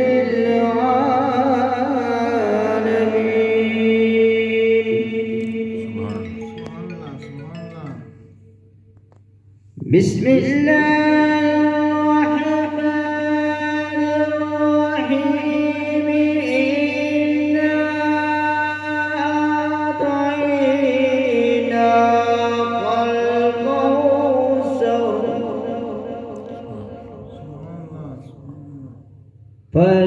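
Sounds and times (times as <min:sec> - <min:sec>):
man chanting melodically: 0:00.0 - 0:08.5, 0:09.8 - 0:30.0.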